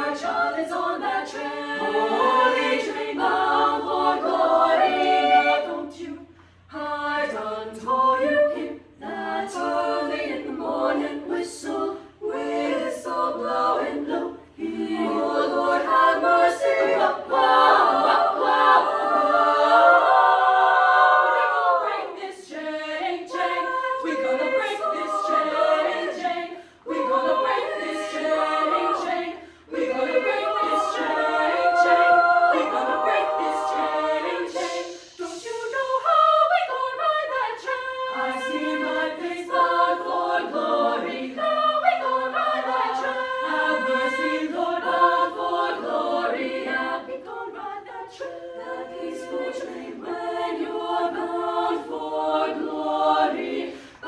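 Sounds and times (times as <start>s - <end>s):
vocal ensemble singing a cappella: 0.0s - 54.0s.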